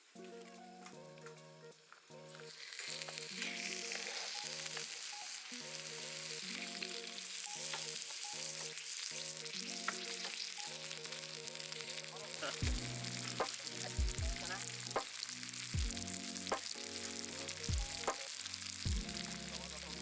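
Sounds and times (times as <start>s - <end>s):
light background music: 0.0s - 20.0s
sizzling hiss: 1.8s - 20.0s.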